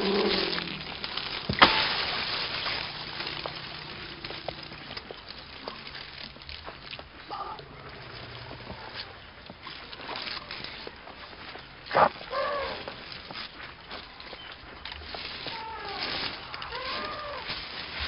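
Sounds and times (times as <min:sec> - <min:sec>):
film soundtrack hiss and crackle: 0:00.0 - 0:18.0.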